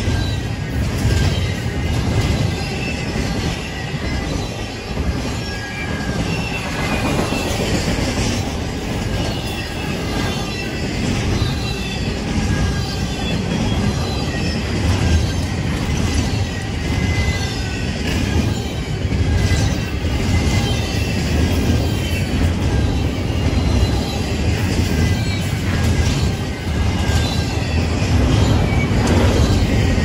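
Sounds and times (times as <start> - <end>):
freight train wheels rumbling: 0.0 - 30.0
high-pitched wheel squeals: 0.0 - 30.0.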